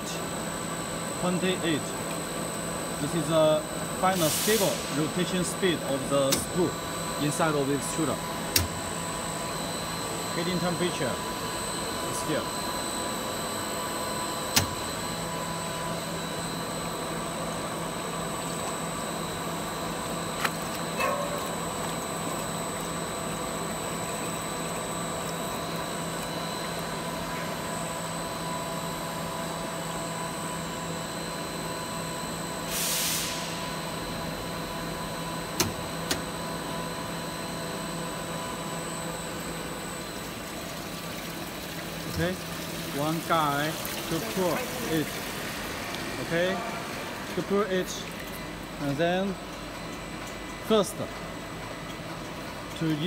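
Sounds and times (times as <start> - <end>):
machine hum with constant tones: 0.0 - 53.0.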